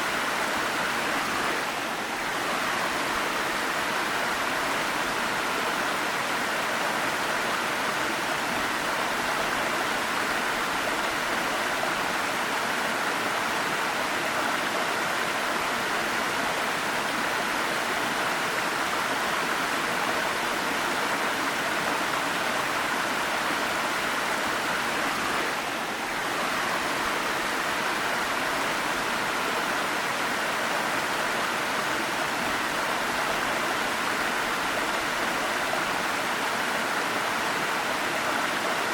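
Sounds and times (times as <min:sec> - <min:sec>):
waterfall rushing water: 0:00.0 - 0:38.9.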